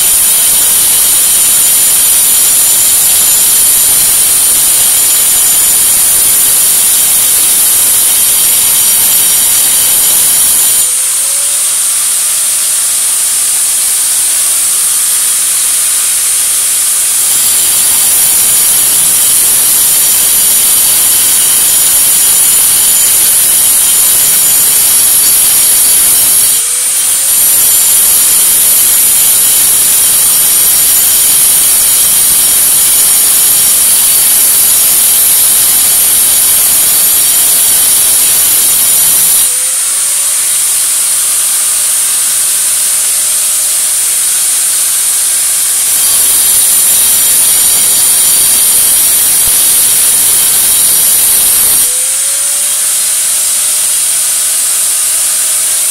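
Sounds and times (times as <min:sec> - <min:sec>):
power tool whining: 0:00.0 - 0:55.9.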